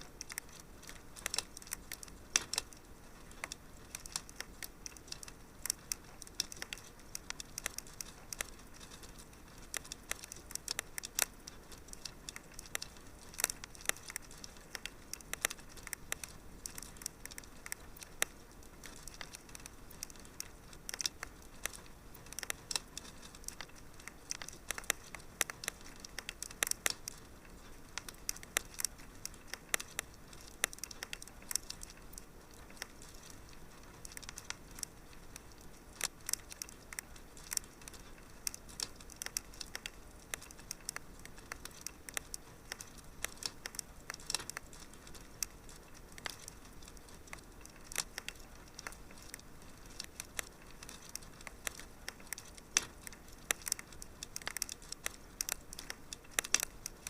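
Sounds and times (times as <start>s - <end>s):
fire crackling: 0.0s - 57.0s
soft steady hiss: 0.0s - 57.0s.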